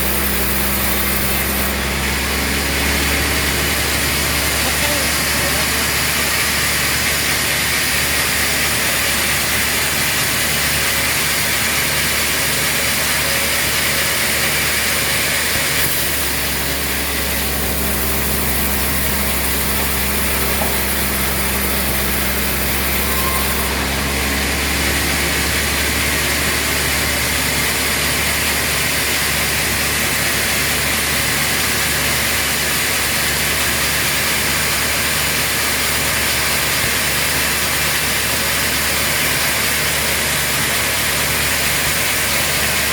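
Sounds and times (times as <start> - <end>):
machinery humming: 0.0 - 42.9.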